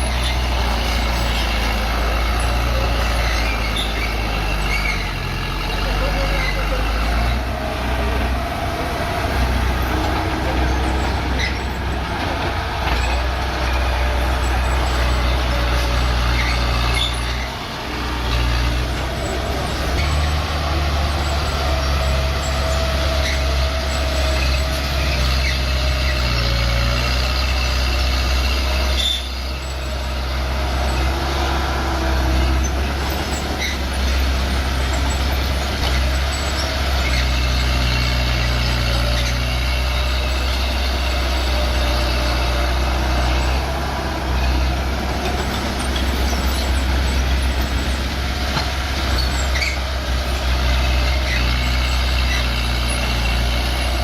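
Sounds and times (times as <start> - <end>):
high squeaks: 0.0 - 8.4, 9.0 - 54.0
bulldozer diesel engine droning: 0.0 - 54.0.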